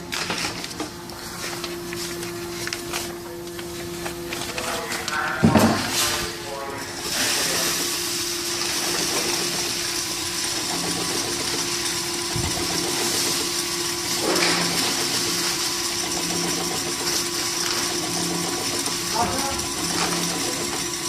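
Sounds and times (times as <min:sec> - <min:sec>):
machinery motor hum and whir: 0:00.0 - 0:21.0.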